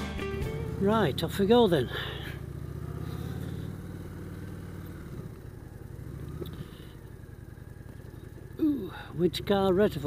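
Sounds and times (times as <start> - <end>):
motorcycle engine pulling away: 0.0 - 10.0.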